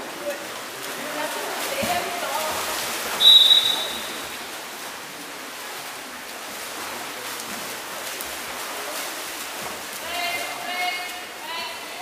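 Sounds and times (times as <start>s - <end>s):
water splashing in pool: 0.0s - 12.0s.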